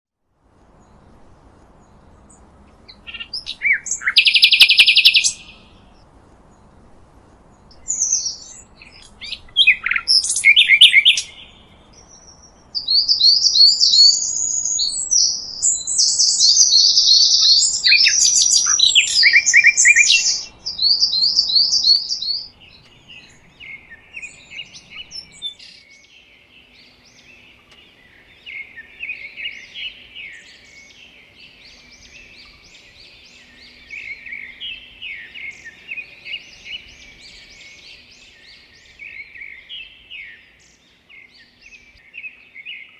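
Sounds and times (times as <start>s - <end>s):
songbird singing: 0.4s - 42.9s
faint bird chirping: 0.6s - 42.9s.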